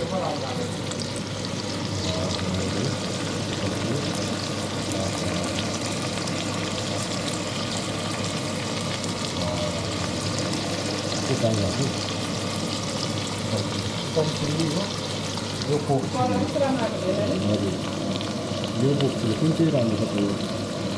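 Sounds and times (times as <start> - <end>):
meat sizzling in pan: 0.0 - 20.9.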